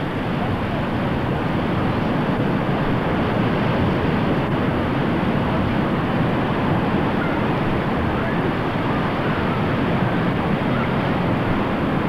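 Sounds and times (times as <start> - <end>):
breaking sea surf: 0.0 - 12.0
wind buffeting microphone: 0.0 - 12.0.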